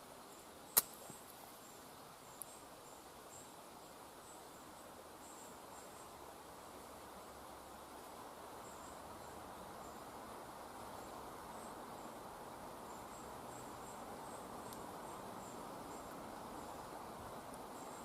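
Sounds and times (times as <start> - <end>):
insects chirping faintly: 0.0 - 18.0.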